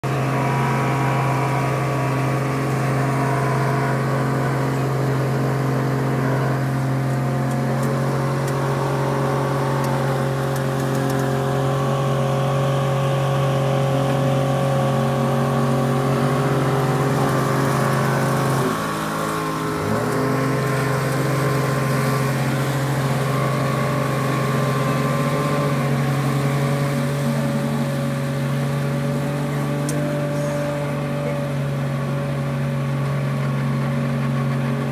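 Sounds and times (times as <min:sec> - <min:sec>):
boat wake churning: 0:00.0 - 0:34.9
outboard motor running: 0:00.0 - 0:34.9.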